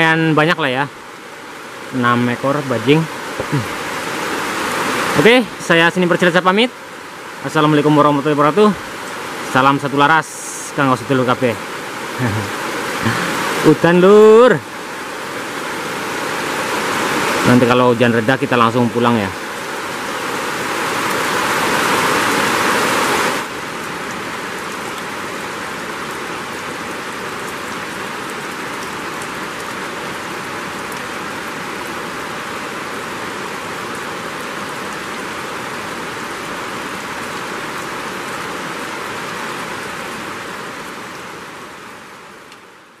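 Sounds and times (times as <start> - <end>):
rain falling steadily: 0.0 - 43.0.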